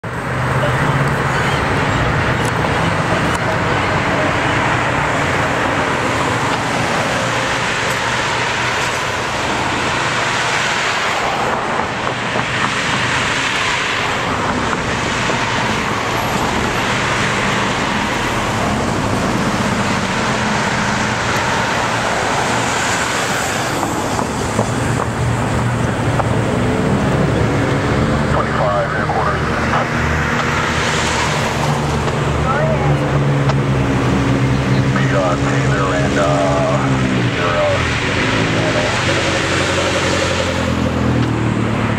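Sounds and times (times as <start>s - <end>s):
cars driving past: 0.0s - 41.9s.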